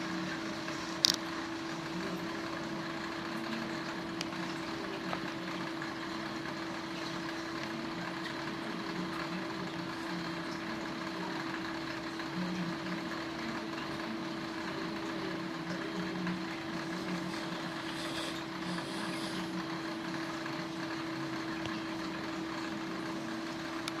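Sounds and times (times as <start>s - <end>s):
aquarium filter humming: 0.0s - 24.0s.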